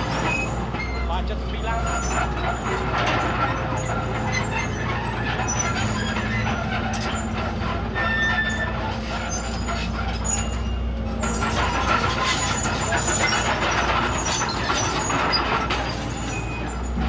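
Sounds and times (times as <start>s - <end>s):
bulldozer diesel engine running: 0.0s - 17.0s
machine clanks: 0.0s - 17.0s.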